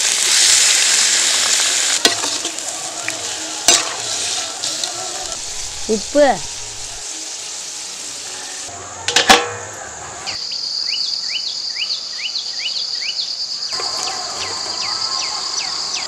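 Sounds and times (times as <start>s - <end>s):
insects trilling: 0.6s - 16.0s.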